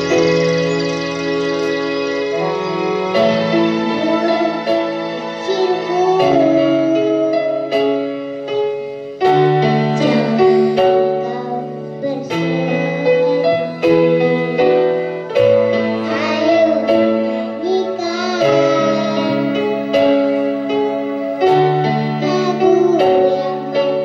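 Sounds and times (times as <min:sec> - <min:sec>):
keyboard music: 0:00.0 - 0:24.0.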